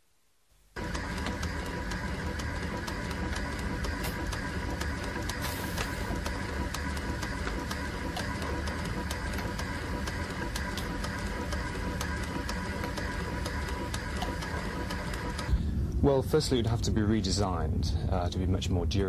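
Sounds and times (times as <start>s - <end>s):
mechanical hiss and hum: 0.6s - 19.0s.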